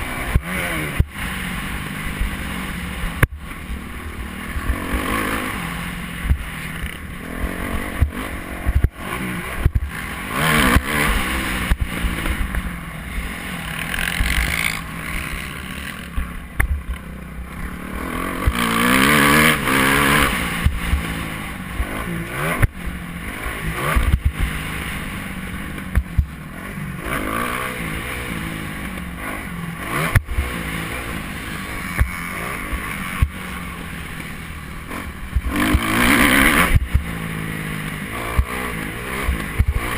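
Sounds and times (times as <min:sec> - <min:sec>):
low rumble of wind: 0:00.0 - 0:39.9
motocross bike engine revving: 0:00.0 - 0:39.9.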